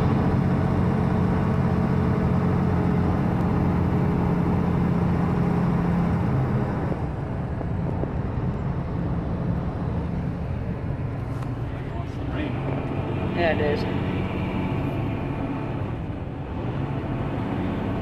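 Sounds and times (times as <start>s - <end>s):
diesel truck engine droning: 0.0s - 18.0s
road and wind noise: 0.0s - 18.0s.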